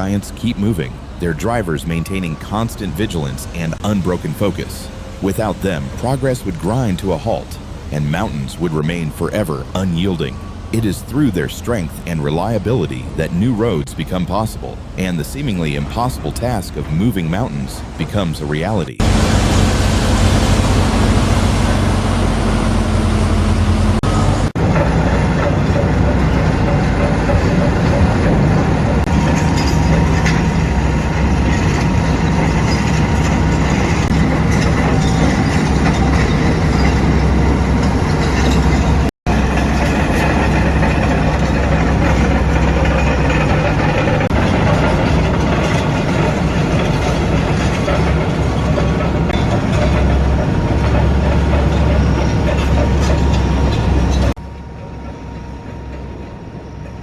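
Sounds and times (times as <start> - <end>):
diesel engine drone: 0.0 - 57.0
machinery clattering and rumbling: 0.0 - 57.0.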